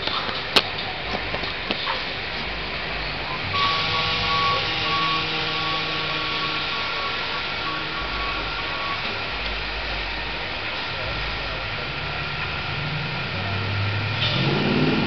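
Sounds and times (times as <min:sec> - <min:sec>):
bus engine running: 0:00.0 - 0:15.0
steady whining tones: 0:00.0 - 0:15.0.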